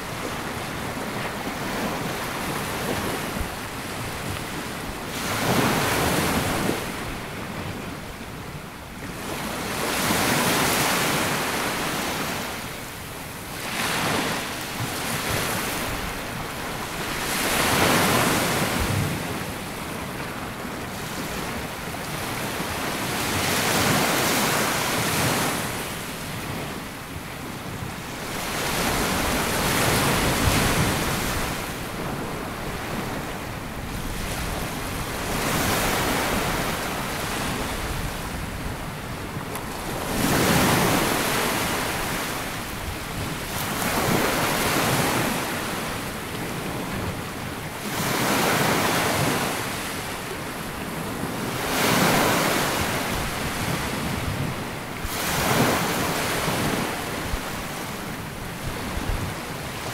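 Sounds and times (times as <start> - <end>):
sea waves breaking on beach: 0.0 - 59.9
wind buffeting microphone: 0.0 - 59.9.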